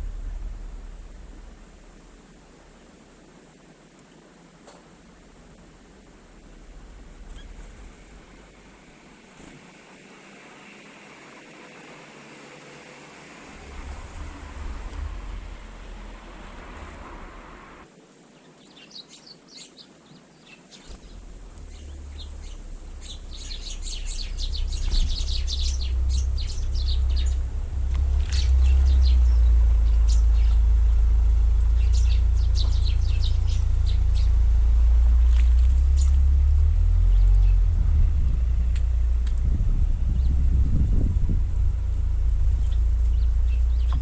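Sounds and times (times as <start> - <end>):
deep steady rumble: 0.0 - 17.9, 20.9 - 44.0
small birds chirping: 0.0 - 36.4, 37.0 - 44.0.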